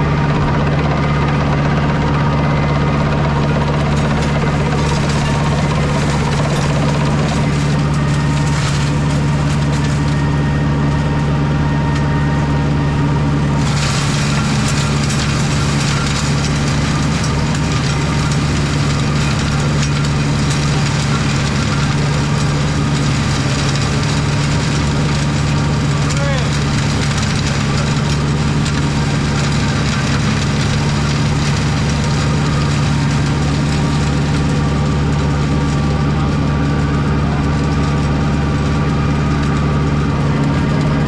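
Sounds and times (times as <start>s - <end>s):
mulcher shredding brambles: 0.0s - 41.0s
tractor engine running: 0.0s - 41.0s.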